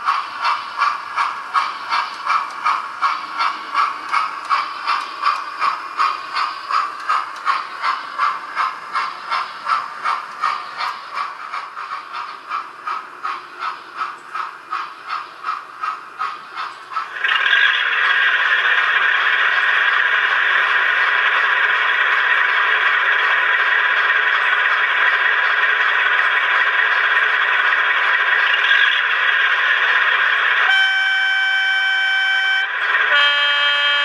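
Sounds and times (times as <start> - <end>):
model steam locomotive chuffing: 0.0 - 34.0.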